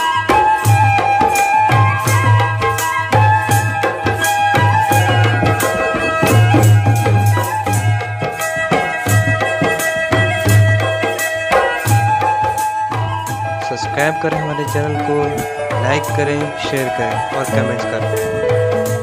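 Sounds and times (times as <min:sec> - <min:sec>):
held melodic tones: 0:00.0 - 0:19.0
percussion beat: 0:00.0 - 0:19.0.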